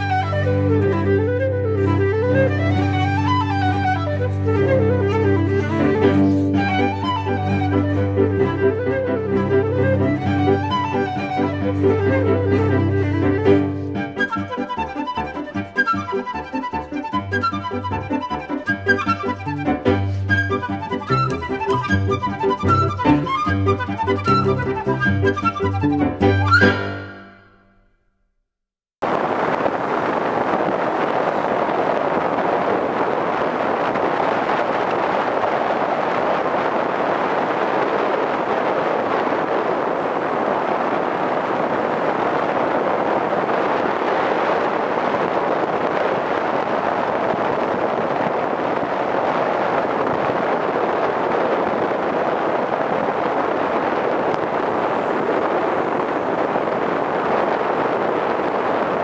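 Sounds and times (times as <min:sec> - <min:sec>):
car wind and road noise: 0:00.0 - 0:27.0, 0:29.0 - 0:59.0.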